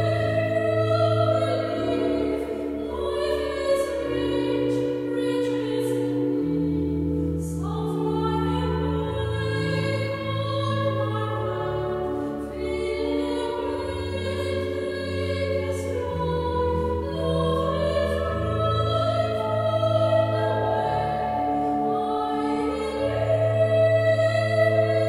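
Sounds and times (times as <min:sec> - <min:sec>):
church organ: 0:00.0 - 0:25.0
woman singing: 0:00.0 - 0:25.0.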